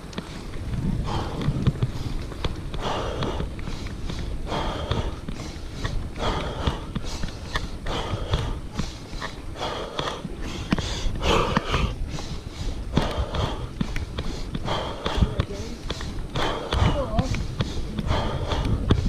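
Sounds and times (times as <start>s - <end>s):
cyclist breathing hard: 0.0s - 19.0s
wind and tyre rumble: 0.0s - 19.0s.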